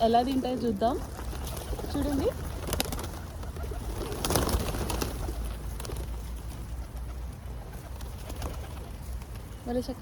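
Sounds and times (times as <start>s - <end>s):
pigeons: 0.0s - 10.0s.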